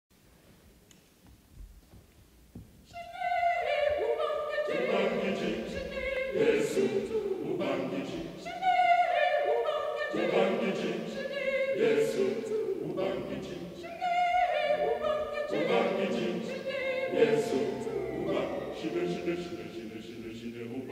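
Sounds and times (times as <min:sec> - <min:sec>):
mixed choir singing unaccompanied: 0:02.9 - 0:20.9.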